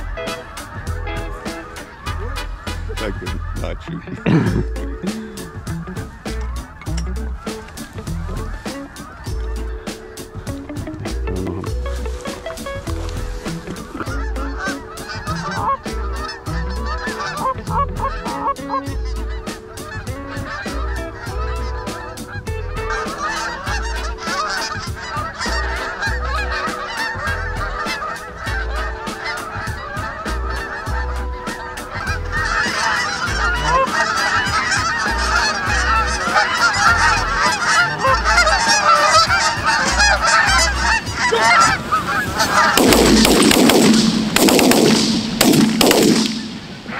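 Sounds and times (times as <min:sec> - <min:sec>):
geese honking: 0:00.0 - 0:46.9.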